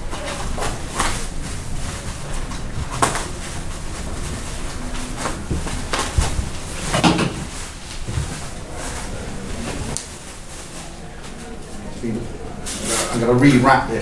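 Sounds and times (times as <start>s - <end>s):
plastic wrap rustling and crinkling: 0.0s - 13.8s.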